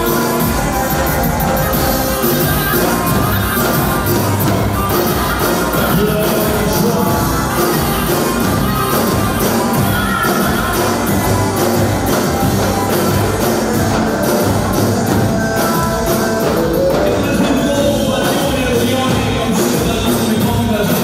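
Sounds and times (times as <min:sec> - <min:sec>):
music with percussion: 0:00.0 - 0:21.0.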